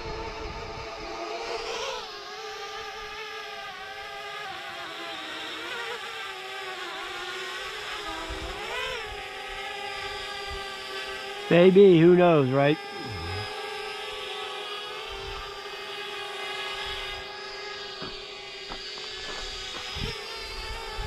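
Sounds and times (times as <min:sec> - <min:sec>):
drone propellers whining: 0:02.4 - 0:21.0.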